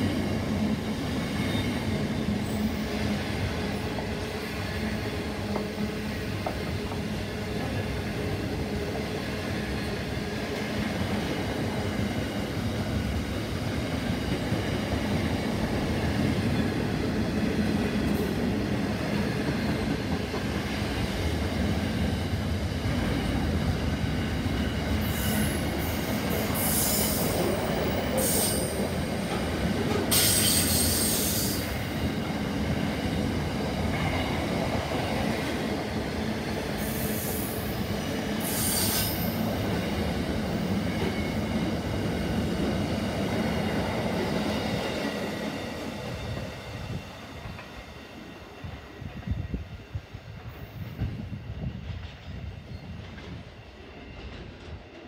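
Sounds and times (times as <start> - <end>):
freight train wagons rumbling: 0.0 - 47.8, 50.3 - 55.0.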